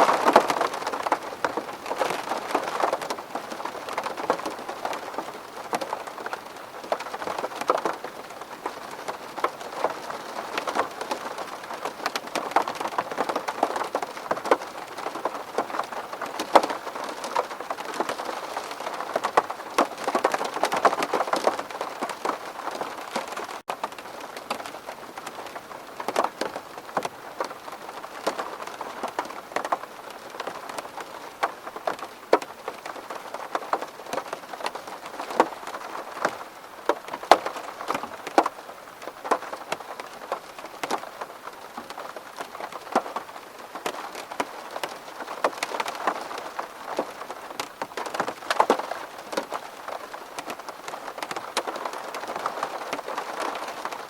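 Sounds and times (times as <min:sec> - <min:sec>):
raindrops tapping on window glass: 0:00.0 - 0:54.0.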